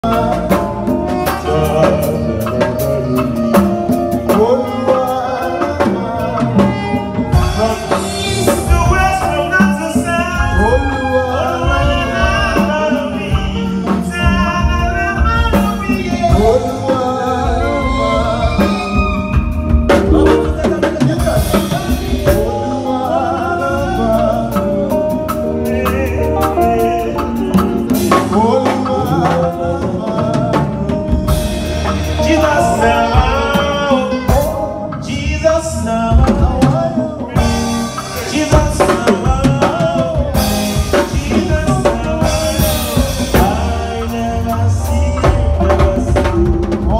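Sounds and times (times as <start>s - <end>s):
drum kit: 0.0s - 46.9s
electric guitars: 0.0s - 46.9s
man singing into a microphone: 0.0s - 46.9s.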